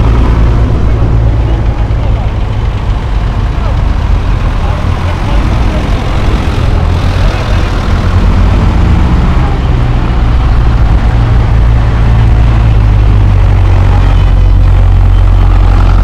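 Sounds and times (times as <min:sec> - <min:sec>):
tractor engines droning: 0:00.0 - 0:16.0.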